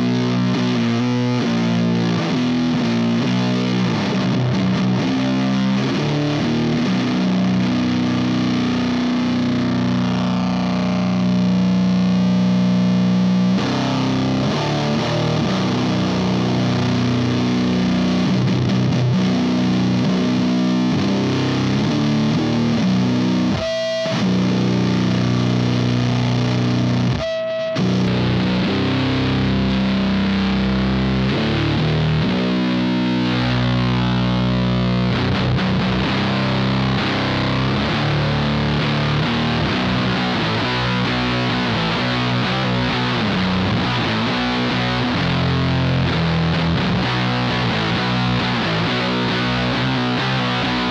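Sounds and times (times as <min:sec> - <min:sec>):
distorted electric guitar riffs: 0:00.0 - 0:50.9.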